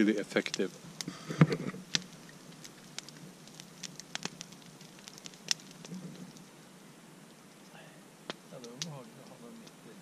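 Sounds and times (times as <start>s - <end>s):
faint hiss: 0.0s - 10.0s
log fire crackling and popping: 0.0s - 10.0s.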